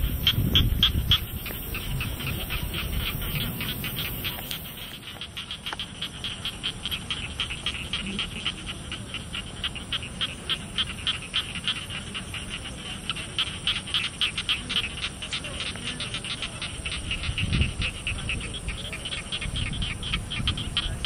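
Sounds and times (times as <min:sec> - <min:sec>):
frogs and insects calling: 0:00.0 - 0:21.0.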